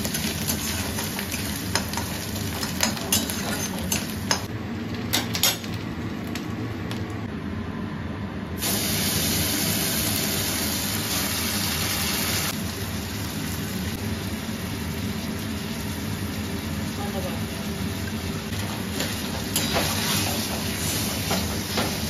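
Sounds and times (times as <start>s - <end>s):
hot oil sizzling: 0.0s - 6.6s, 8.6s - 22.0s.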